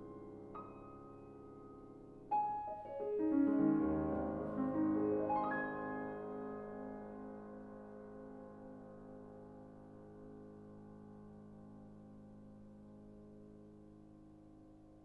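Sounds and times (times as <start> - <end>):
solo grand piano: 0.0 - 15.0.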